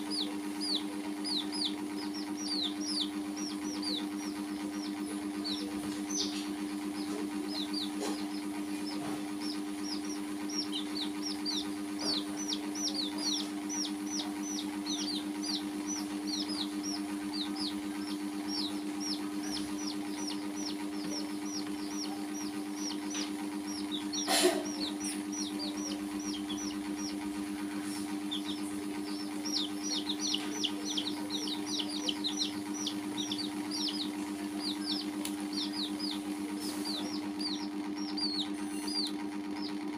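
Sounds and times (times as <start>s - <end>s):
baby chicks peeping: 0.0s - 39.9s
low mechanical hum: 0.0s - 39.9s.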